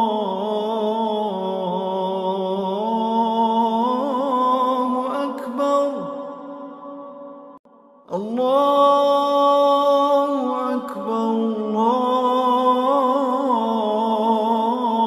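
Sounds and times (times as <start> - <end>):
man chanting a lament: 0.0 - 6.9, 8.1 - 15.0.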